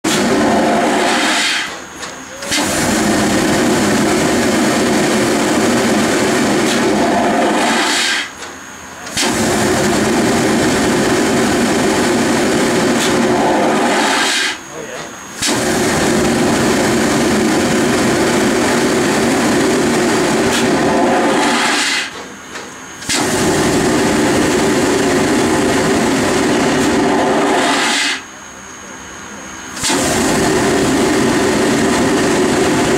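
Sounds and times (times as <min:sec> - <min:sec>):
steam locomotive venting steam: 0:00.0 - 0:32.9.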